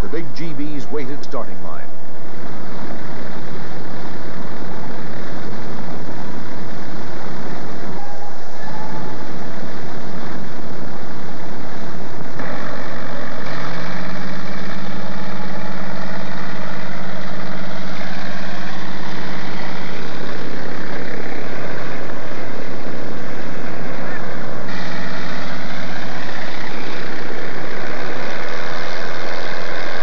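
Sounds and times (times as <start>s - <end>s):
propeller aircraft engine drone: 0.0s - 30.0s
steady low hum: 0.0s - 30.0s.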